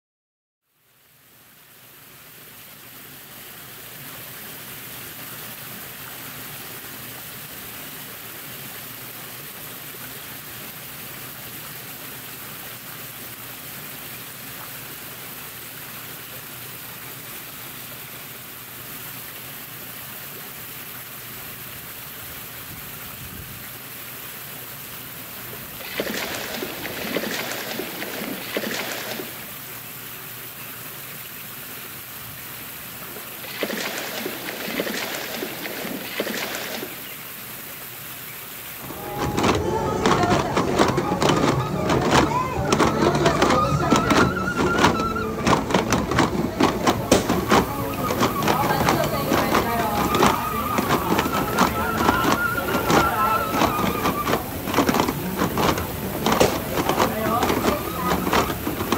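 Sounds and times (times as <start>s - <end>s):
running water rushing: 0.6s - 58.9s.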